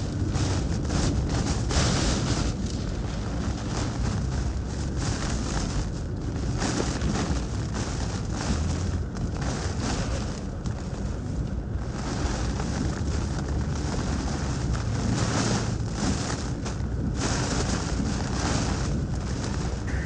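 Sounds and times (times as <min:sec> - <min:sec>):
wind and driving rain hiss: 0:00.0 - 0:20.0
wind rumble on microphone: 0:00.0 - 0:20.0.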